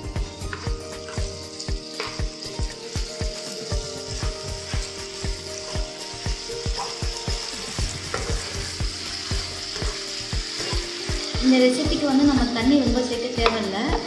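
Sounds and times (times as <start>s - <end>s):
background music with low beat: 0.0s - 14.0s
food sizzling in pan: 0.0s - 14.0s.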